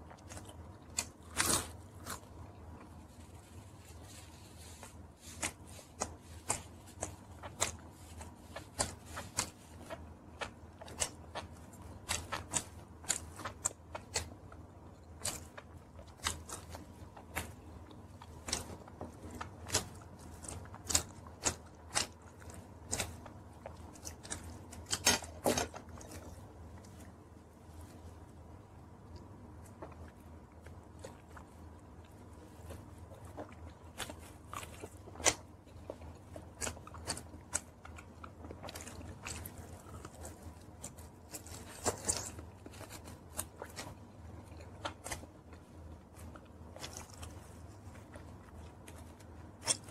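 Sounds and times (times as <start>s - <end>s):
person chewing: 0.0s - 49.9s.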